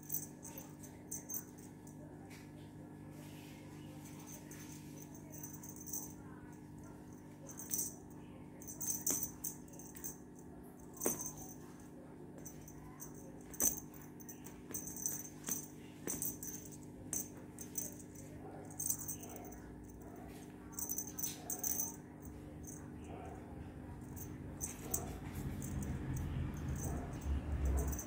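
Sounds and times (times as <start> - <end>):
cat toy jingling: 0.0 - 1.8, 4.2 - 6.4, 7.0 - 11.8, 12.4 - 23.4, 24.0 - 28.0.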